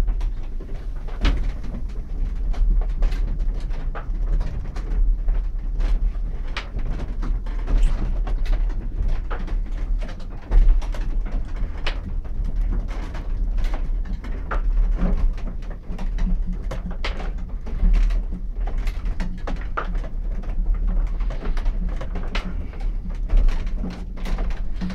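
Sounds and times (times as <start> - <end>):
wooden gears knocking and creaking: 0.0 - 24.9.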